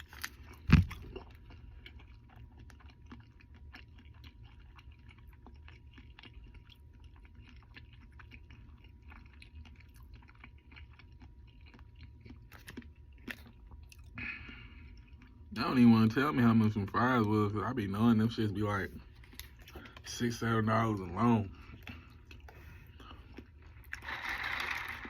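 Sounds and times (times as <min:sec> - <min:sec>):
chewing food with wet clicks: 0:00.0 - 0:24.0.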